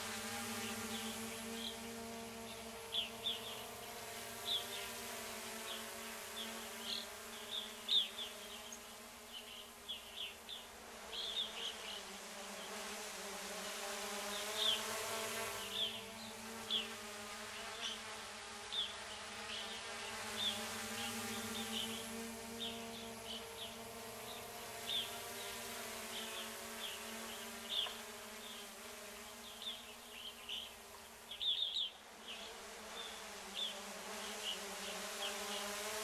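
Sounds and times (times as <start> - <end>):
buzzing hum: 0.0 - 36.0.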